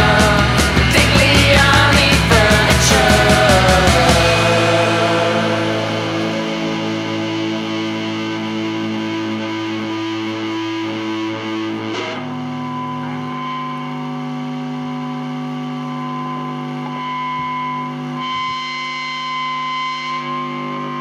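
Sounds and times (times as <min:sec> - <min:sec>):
distorted electric guitar chords: 0:00.0 - 0:21.0
steady drone: 0:00.0 - 0:21.0.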